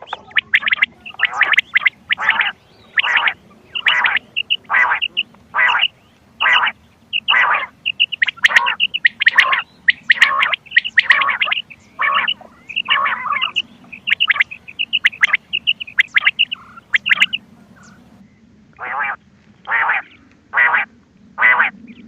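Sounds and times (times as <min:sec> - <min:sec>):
quail calls: 0:00.0 - 0:18.1, 0:18.8 - 0:21.8.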